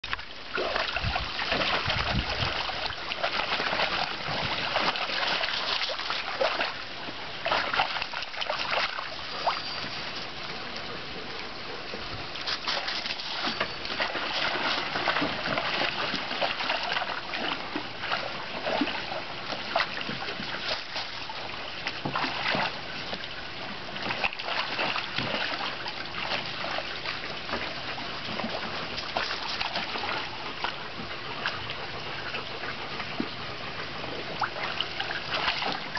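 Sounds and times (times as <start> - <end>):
dogs splashing in water: 0.0 - 35.9.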